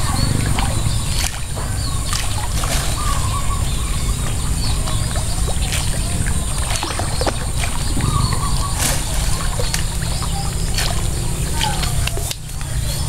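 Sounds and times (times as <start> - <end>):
birds chirping: 0.0 - 13.0
high insect drone: 0.0 - 13.0
steady low rumble: 0.0 - 13.0.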